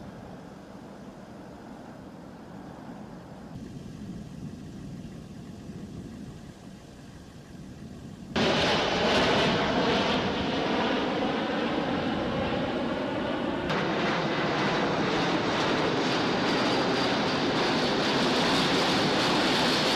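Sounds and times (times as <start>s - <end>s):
jet engines roaring with whine: 0.0s - 19.9s.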